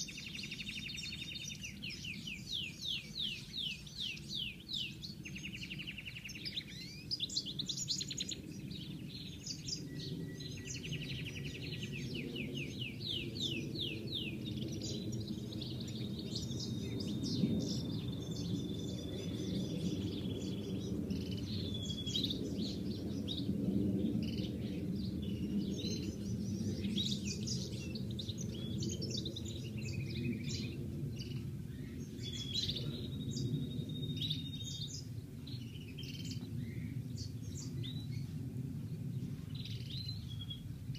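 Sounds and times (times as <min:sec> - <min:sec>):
goldfinch singing: 0:00.0 - 0:23.5, 0:24.2 - 0:38.2.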